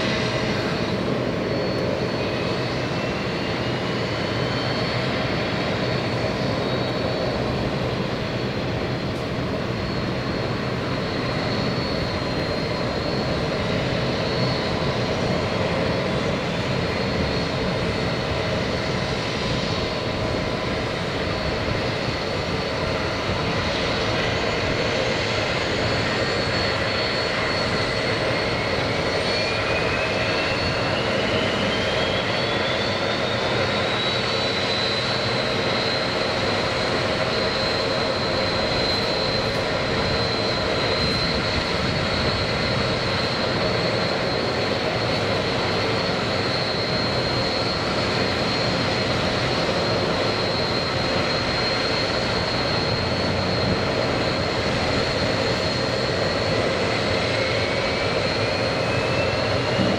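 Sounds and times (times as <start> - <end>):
jet engine spooling up: 0.0 - 59.9
jet engines rushing and whining: 0.0 - 59.9.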